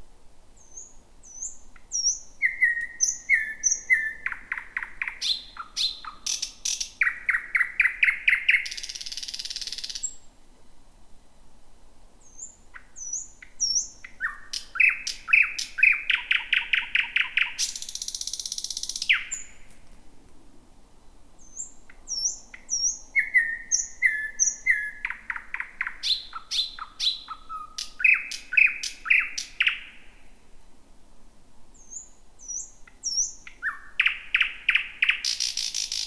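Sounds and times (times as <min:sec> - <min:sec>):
thrush nightingale singing: 0:00.6 - 0:10.3, 0:12.2 - 0:19.8, 0:21.4 - 0:30.3, 0:31.7 - 0:36.0.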